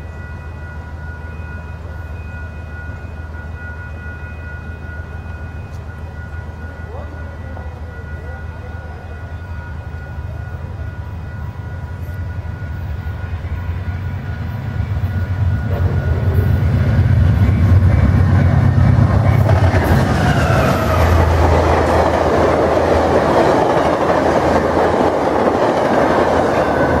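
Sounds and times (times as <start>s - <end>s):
diesel locomotive engine drone: 0.0s - 27.0s
train wheels rushing on rails: 0.8s - 27.0s.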